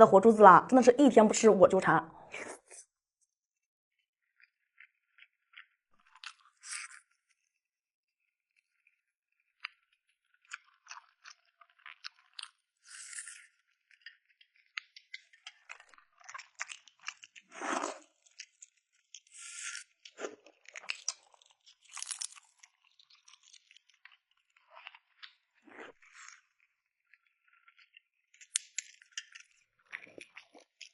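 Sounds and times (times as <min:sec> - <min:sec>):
person crunching and chewing: 0:04.3 - 0:07.5, 0:08.6 - 0:30.9.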